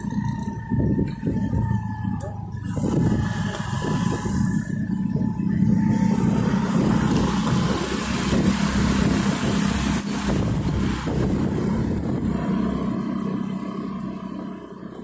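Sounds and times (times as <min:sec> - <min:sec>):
wind noise: 0:00.0 - 0:12.5
motorcycle engine running: 0:00.0 - 0:15.0
road noise: 0:00.0 - 0:15.0.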